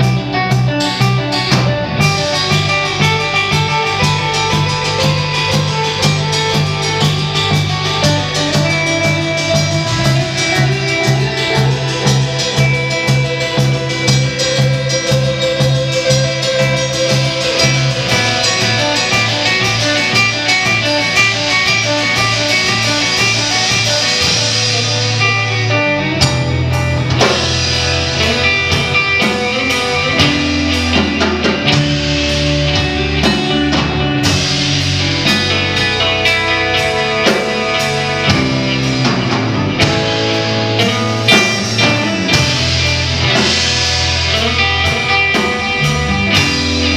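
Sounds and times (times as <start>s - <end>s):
drum kit: 0.0s - 46.9s
electric bass: 0.0s - 46.9s
electric guitar: 0.0s - 46.9s.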